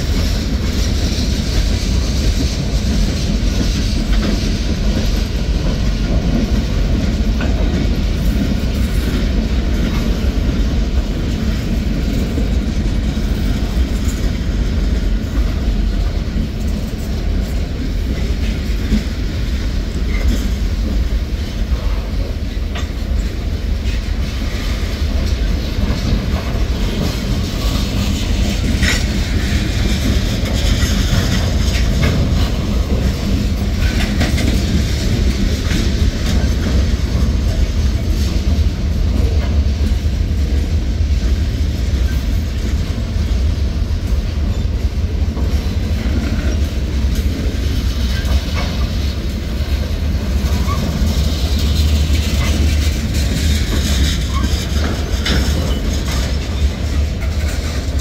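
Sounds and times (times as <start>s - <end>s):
freight train cars rolling: 0.0s - 58.0s.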